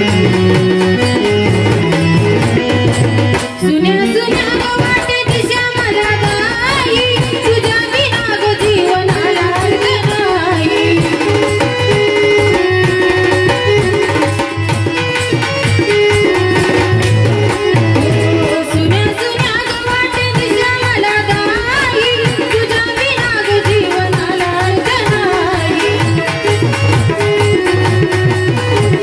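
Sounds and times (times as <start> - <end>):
tabla beat: 0.0 - 29.0.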